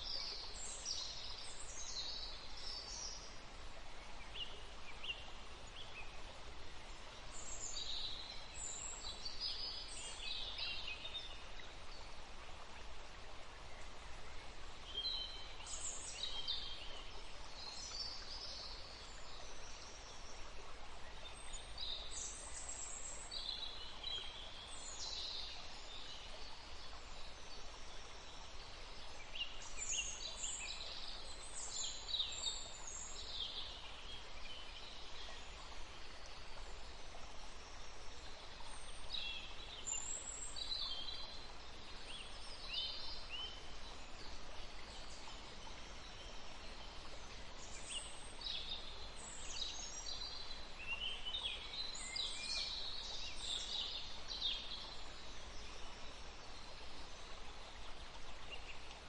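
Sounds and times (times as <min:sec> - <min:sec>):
forest stream rushing: 0:00.0 - 0:59.0
songbirds chirping: 0:00.0 - 0:59.0.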